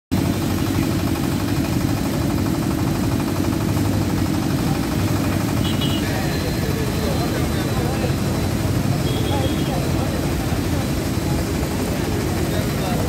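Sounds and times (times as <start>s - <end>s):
engine-driven pump droning: 0.1s - 13.0s.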